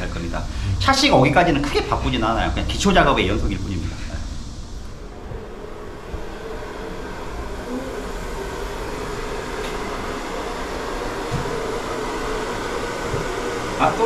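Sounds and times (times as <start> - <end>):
mechanical whirring hum: 0.0 - 14.0.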